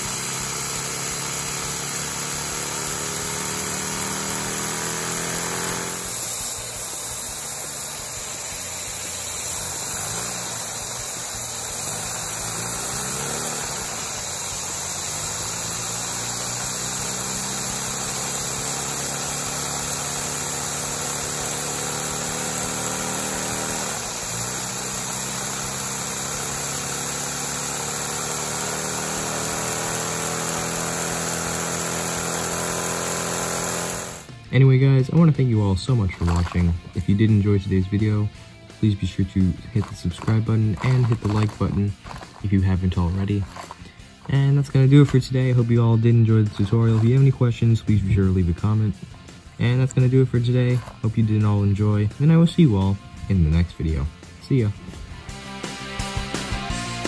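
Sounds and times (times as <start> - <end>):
small vacuum engine running: 0.0 - 57.0.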